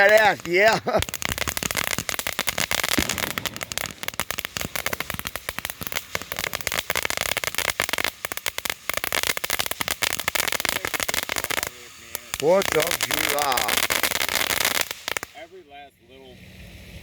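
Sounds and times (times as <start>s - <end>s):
fireworks popping and crackling: 0.0s - 15.6s.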